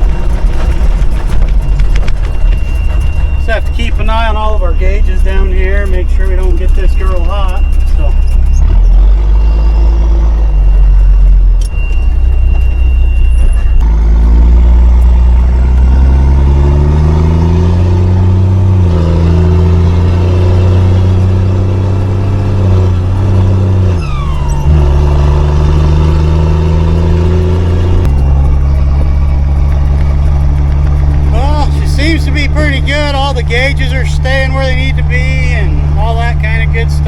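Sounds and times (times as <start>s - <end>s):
truck diesel engine pulling: 0.0s - 37.0s.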